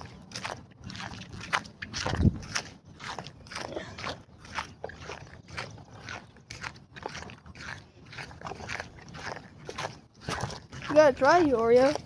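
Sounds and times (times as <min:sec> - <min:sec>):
crunchy footsteps on wet ground: 0:00.0 - 0:12.0.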